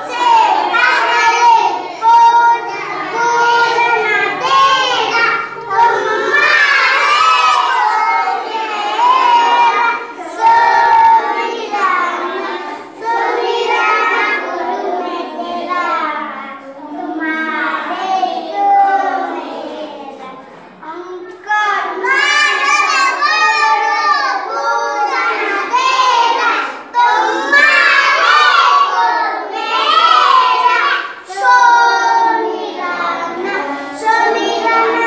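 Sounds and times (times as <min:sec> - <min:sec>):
children singing in unison: 0:00.0 - 0:20.8, 0:21.4 - 0:35.0.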